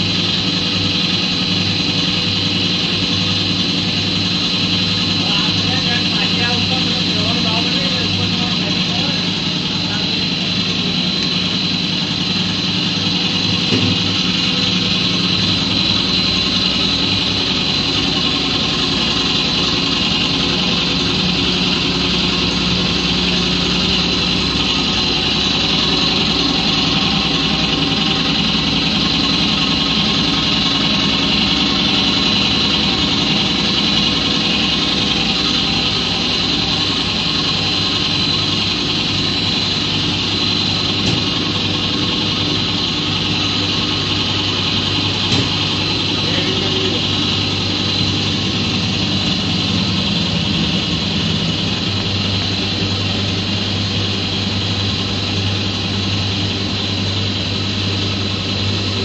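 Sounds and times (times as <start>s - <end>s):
high-pitched whine: 0.0s - 59.0s
machine drone: 0.0s - 59.0s.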